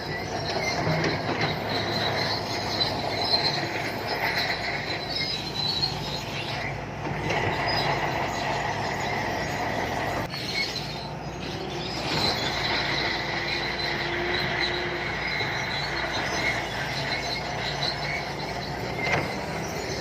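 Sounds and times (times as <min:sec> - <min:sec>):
diesel engine running: 0:00.0 - 0:20.0
steel tracks squealing: 0:00.0 - 0:20.0.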